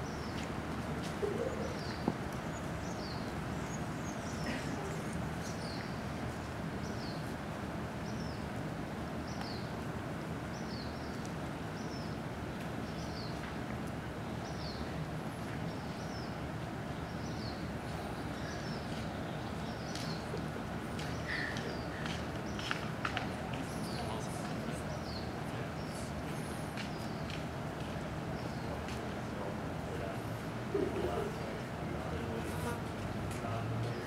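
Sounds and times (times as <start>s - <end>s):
outdoor background hum: 0.0s - 34.0s.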